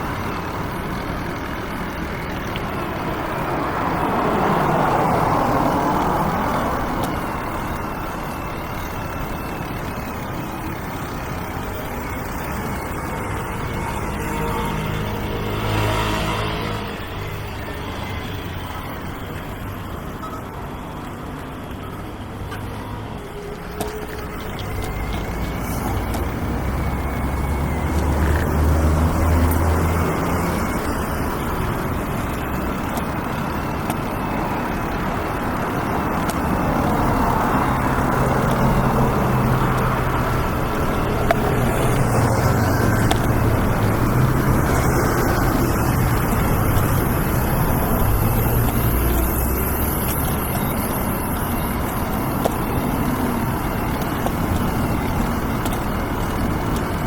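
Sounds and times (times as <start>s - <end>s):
passing cars and trucks: 0.0s - 57.0s.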